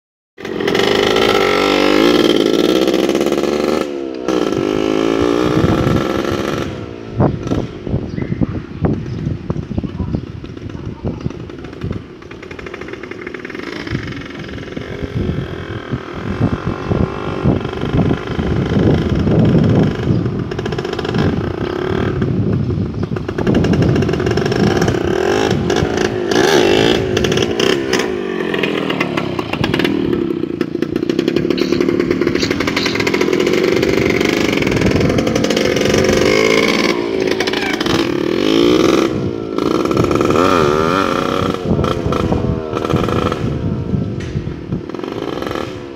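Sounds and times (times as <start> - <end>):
motorcycle engine revving: 0.4 - 45.9.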